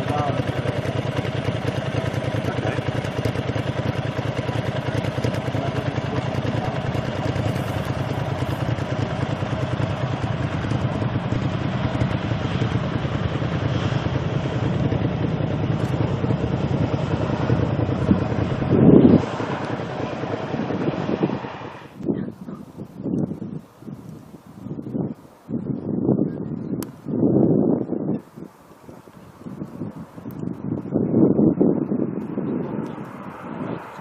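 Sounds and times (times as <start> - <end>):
jet airliner engines rumbling: 0.0 - 34.0.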